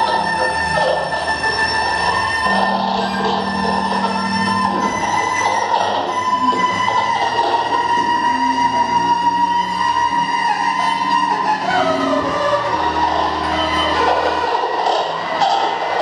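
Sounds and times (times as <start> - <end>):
low droning tones: 0.0 - 16.0
steady high tone: 0.0 - 16.0.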